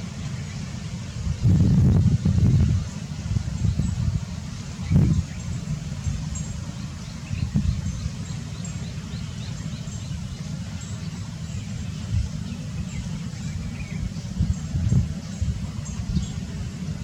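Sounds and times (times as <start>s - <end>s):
wind rumble on microphone: 1.0s - 9.2s, 11.5s - 17.0s.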